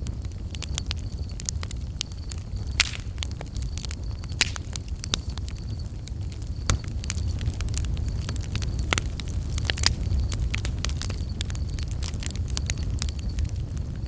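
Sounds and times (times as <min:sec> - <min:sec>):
campfire crackling and popping: 0:00.0 - 0:14.0
crickets chirping: 0:00.0 - 0:14.0
low rumble of flames: 0:00.0 - 0:14.0.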